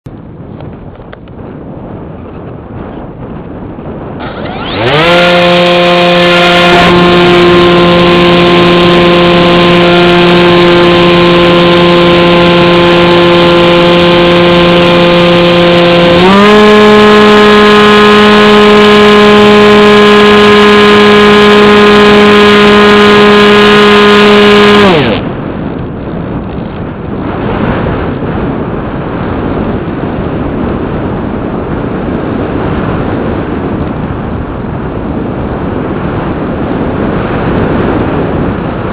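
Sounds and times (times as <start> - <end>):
wind rushing over microphone: 0.0 - 38.9
electric motor and propeller whining: 2.3 - 38.9.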